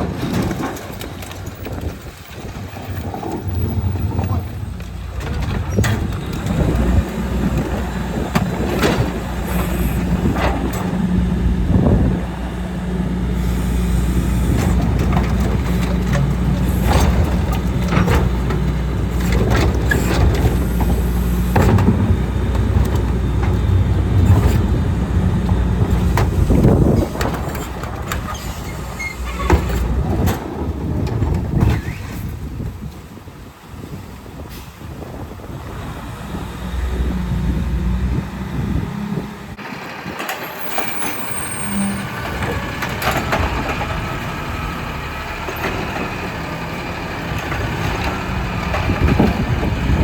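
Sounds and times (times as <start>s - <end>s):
garbage truck engine running: 0.0s - 50.0s.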